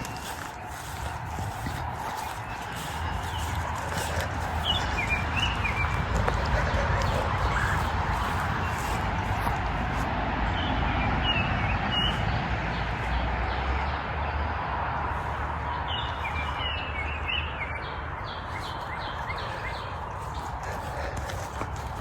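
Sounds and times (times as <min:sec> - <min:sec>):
songbirds chirping: 0:00.0 - 0:22.0
steady rushing outdoor background: 0:00.0 - 0:22.0.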